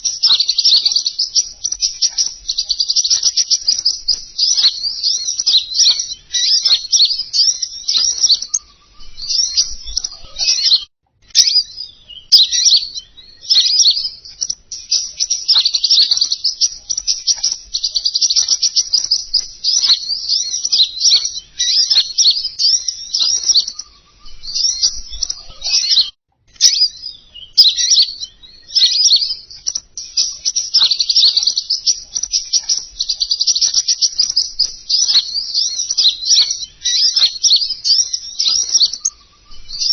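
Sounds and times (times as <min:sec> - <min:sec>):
bird song twittering chirps: 0:00.0 - 0:39.9.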